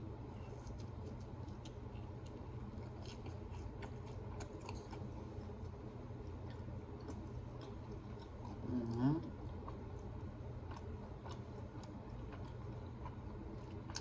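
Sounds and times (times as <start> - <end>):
person chewing pizza: 0.0 - 14.0
steady low hum: 0.0 - 14.0.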